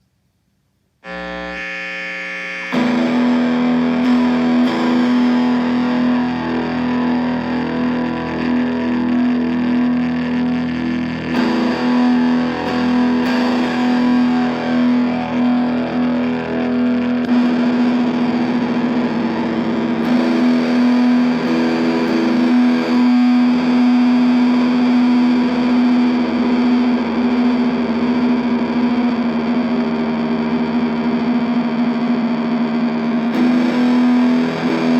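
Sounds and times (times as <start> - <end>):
distorted electric guitar: 1.0 - 34.9
held guitar tone: 1.0 - 34.9.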